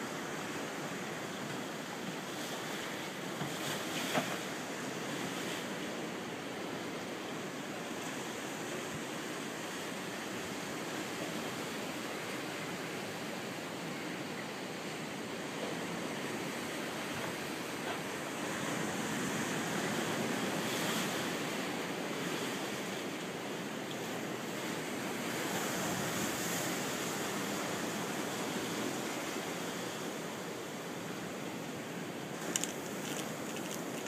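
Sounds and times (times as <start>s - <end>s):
ocean surf washing in: 0.0s - 34.0s.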